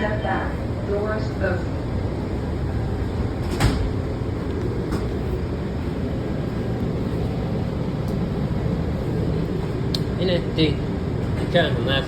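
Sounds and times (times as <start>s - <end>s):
railcar low rumble: 0.0s - 12.0s.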